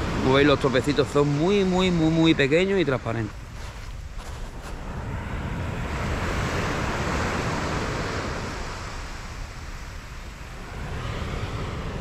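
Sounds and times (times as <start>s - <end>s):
wave breaking on beach: 0.0s - 2.7s, 4.3s - 12.0s
wind rumbling on microphone: 0.0s - 12.0s.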